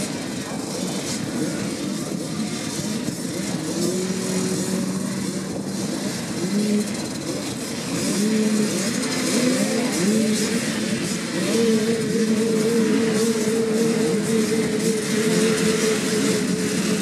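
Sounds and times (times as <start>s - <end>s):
moped engines revving: 0.0s - 17.0s.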